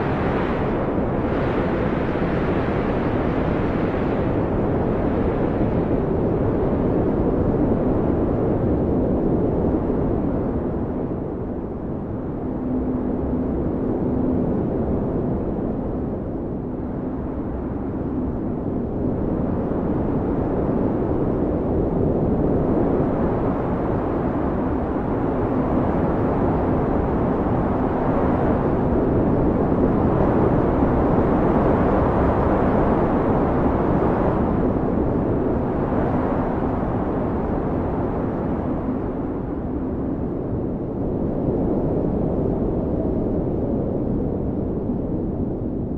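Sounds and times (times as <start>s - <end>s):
blizzard wind blowing hard: 0.0s - 45.9s.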